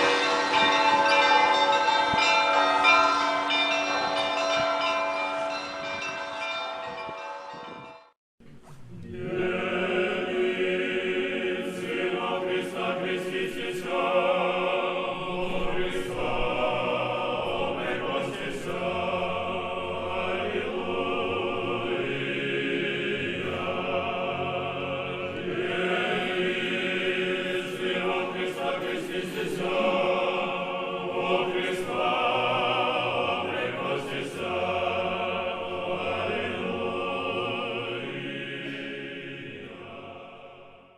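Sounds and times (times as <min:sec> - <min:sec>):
church choir chanting: 0:00.0 - 0:08.2, 0:09.0 - 0:40.9.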